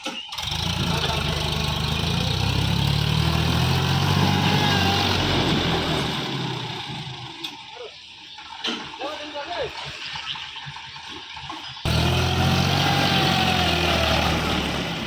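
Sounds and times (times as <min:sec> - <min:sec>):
tractor diesel engine running: 0:00.0 - 0:09.3, 0:10.6 - 0:15.0.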